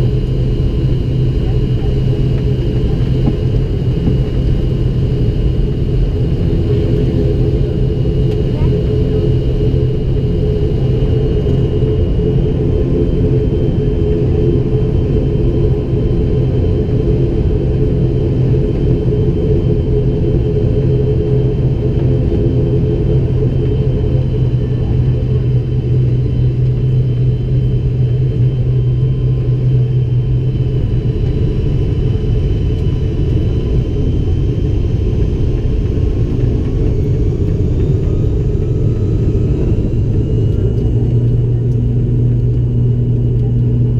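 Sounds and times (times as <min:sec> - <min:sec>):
low hum: 0:00.0 - 0:43.9
turboprop engines droning: 0:00.0 - 0:43.9.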